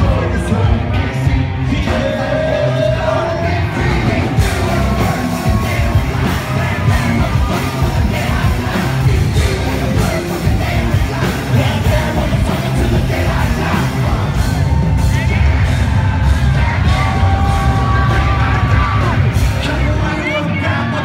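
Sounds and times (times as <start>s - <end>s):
rap music through loud pa: 0.0s - 21.0s.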